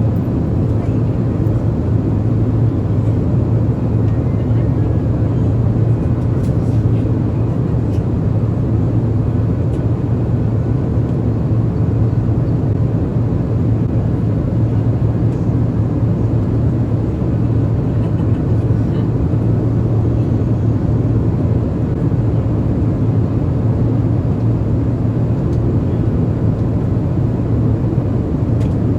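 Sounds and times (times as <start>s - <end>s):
airplane cabin drone: 0.0s - 28.9s.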